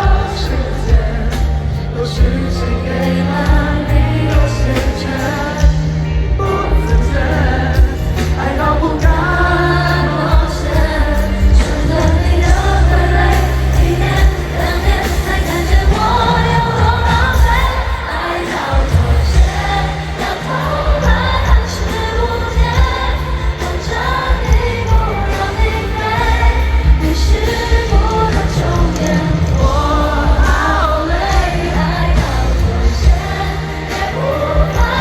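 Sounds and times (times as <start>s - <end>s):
live pop ballad over sound system: 0.0s - 35.0s.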